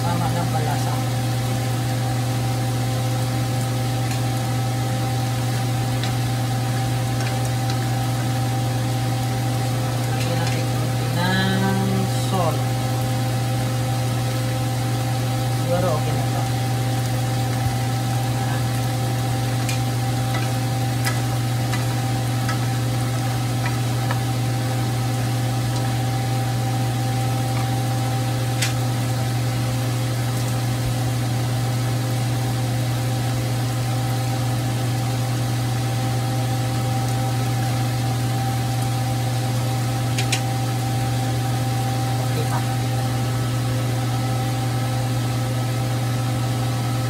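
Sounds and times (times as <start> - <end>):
kitchen appliance hum: 0.0 - 47.0
shrimp sizzling in a frying pan: 0.0 - 47.0.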